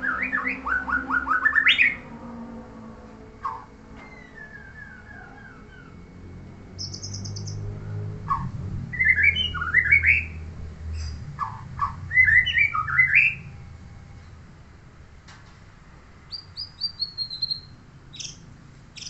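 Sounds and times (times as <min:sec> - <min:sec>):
songbird singing: 0:00.0 - 0:14.4, 0:16.2 - 0:19.0.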